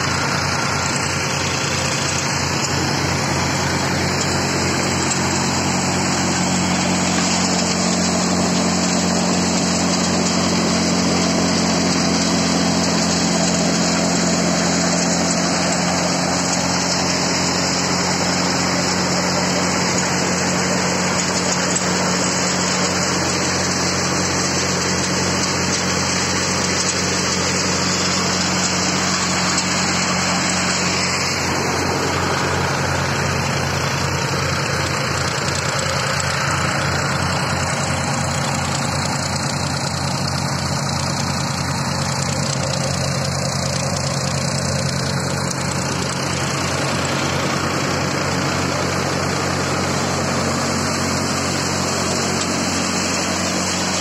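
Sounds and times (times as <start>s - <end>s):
threshing machine rushing: 0.0s - 54.0s
tractor diesel engine hum: 0.0s - 54.0s.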